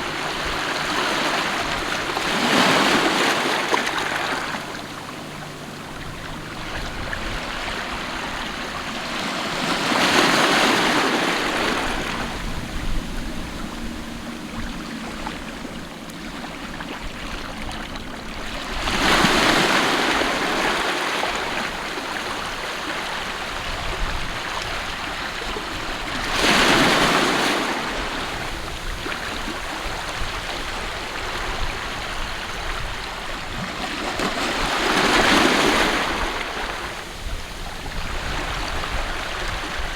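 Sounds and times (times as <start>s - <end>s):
steady rush of water: 0.0s - 32.2s
sea waves breaking: 0.0s - 39.9s.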